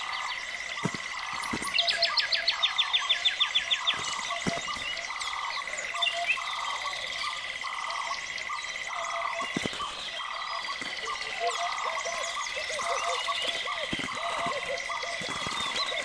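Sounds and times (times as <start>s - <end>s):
bird fast trill: 0.0s - 16.0s.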